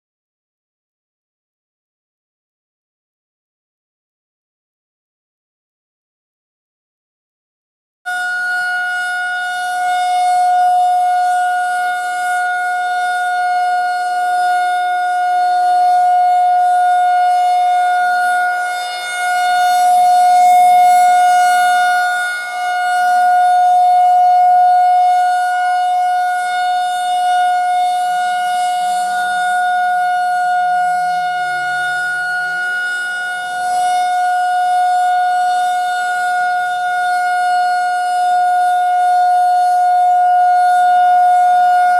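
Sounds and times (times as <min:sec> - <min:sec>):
rotating warning siren tone: 0:08.1 - 0:41.9.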